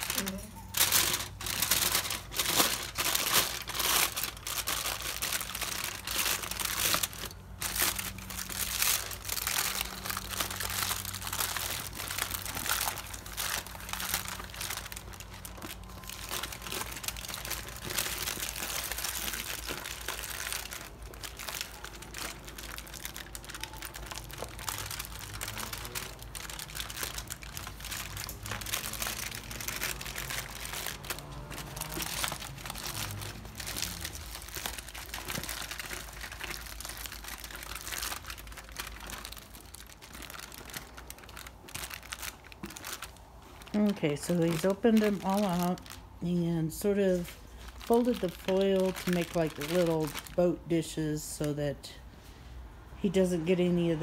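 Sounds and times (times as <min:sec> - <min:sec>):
aluminium foil crinkling: 0:00.0 - 0:51.6.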